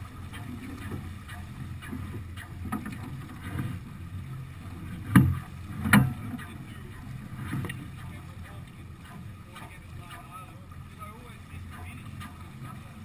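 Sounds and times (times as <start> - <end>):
water rushing past yacht: 0.0 - 13.0
wind: 0.0 - 13.0.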